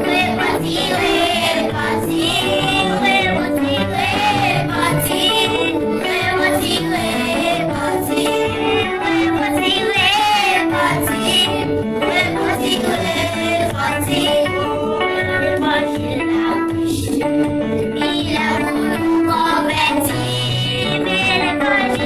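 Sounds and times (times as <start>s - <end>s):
woman singing: 0.0s - 17.3s, 17.9s - 22.0s
instrumental accompaniment: 0.0s - 22.0s.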